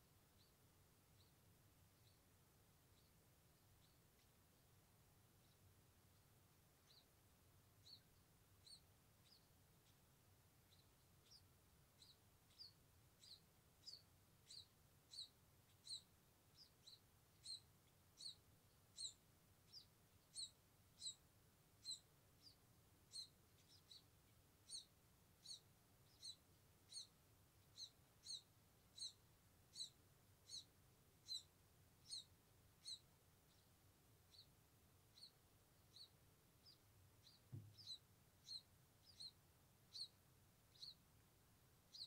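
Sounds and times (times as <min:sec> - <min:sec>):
nestling birds peeping: 0:00.1 - 0:42.0.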